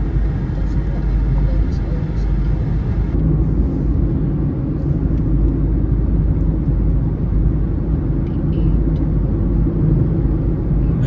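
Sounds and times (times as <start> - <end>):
car engine: 0.0 - 11.0
tyres rumbling on road: 0.0 - 11.0.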